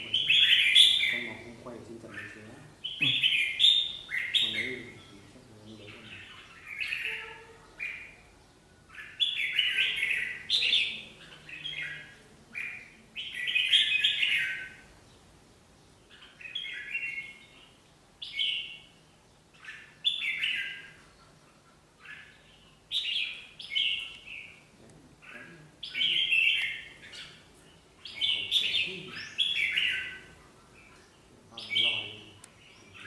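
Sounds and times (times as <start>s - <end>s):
birds chattering: 0.0s - 33.0s.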